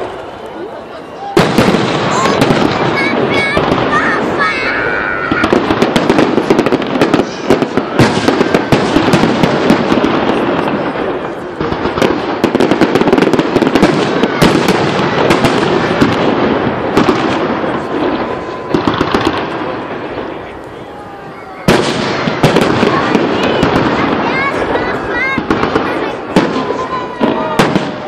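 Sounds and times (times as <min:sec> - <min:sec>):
crackling firework stars: 0:00.0 - 0:28.0.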